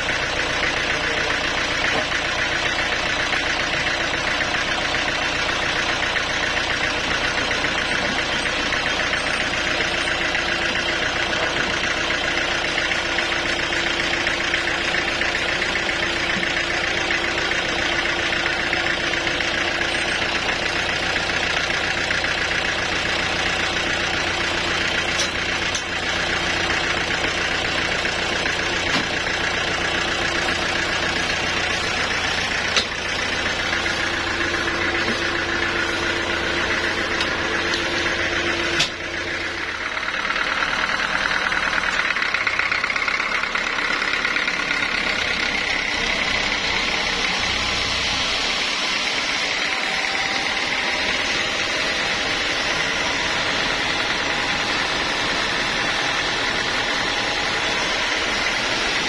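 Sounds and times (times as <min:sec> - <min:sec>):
sawmill engine idling: 0:00.0 - 0:59.0.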